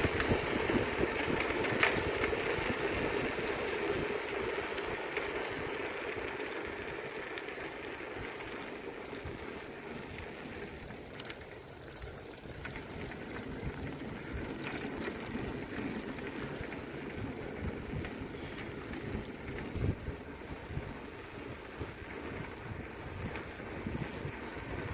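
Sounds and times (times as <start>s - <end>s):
wind buffeting microphone: 0.0s - 6.3s, 8.1s - 24.9s
bicycle rolling noise: 0.0s - 24.9s.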